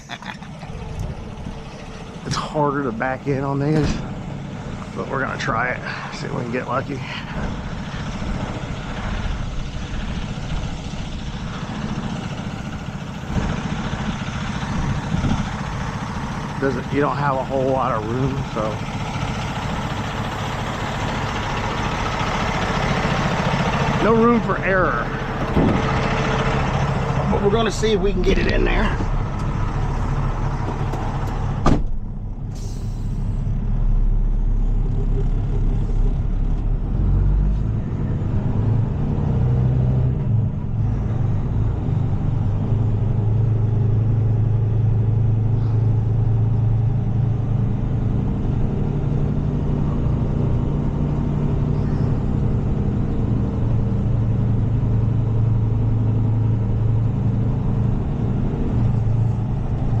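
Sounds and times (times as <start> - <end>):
diesel truck engine running: 0.0 - 60.0.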